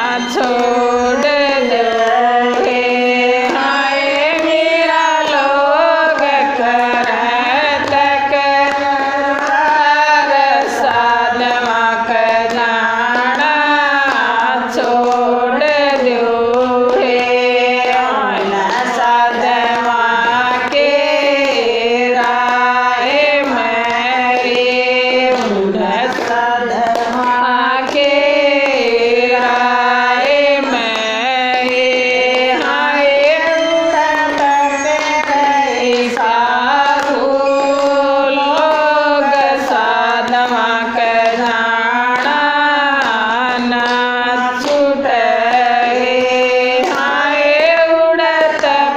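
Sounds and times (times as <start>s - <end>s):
women singing devotional song: 0.0s - 48.9s.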